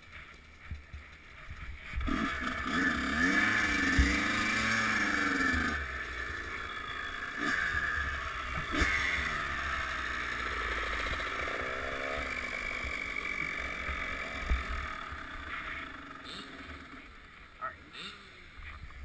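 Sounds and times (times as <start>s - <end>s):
dirt bike engine revving: 0.1s - 18.8s.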